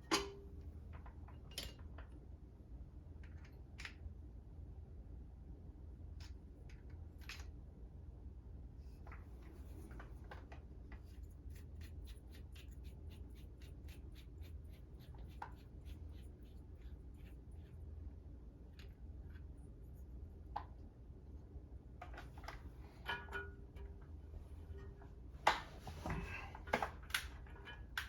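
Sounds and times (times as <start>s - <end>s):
steady low hum: 3.8s - 28.0s.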